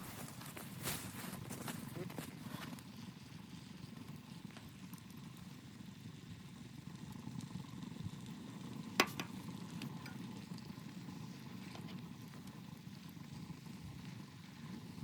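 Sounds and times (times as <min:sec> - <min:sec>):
fire crackling: 0:00.0 - 0:15.0
low steady rumble: 0:00.0 - 0:15.0.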